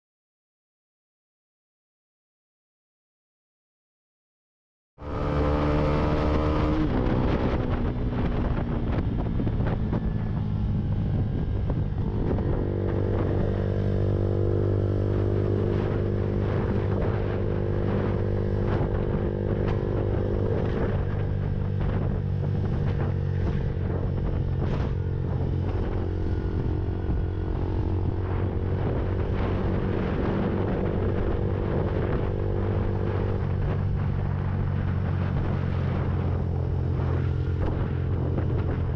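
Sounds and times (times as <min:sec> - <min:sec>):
motorcycle engine running: 0:05.0 - 0:38.9
wind on microphone: 0:05.0 - 0:38.9.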